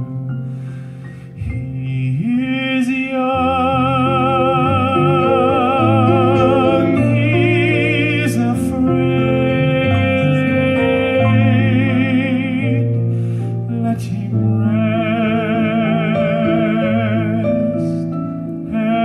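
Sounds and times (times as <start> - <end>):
man singing with vibrato: 1.4 - 19.0
sustained instrumental chords: 3.2 - 19.0.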